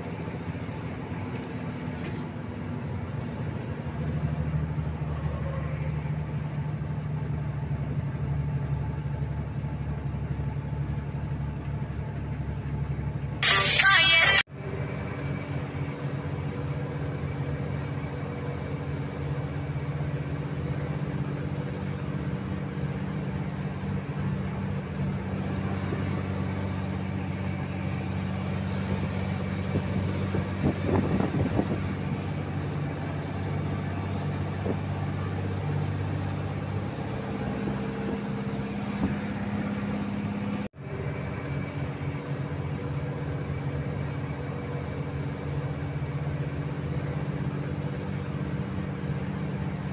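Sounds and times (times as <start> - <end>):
road noise: 0.0 - 49.9
truck engine droning: 0.0 - 49.9.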